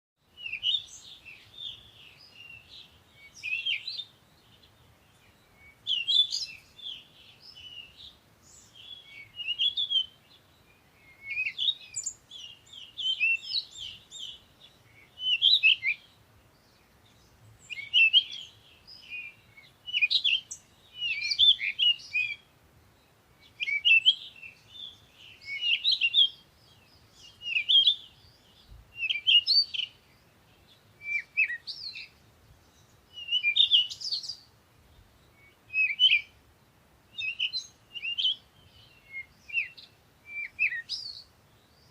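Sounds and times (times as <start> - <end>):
songbird twittering: 0.3 - 36.4, 37.0 - 41.9.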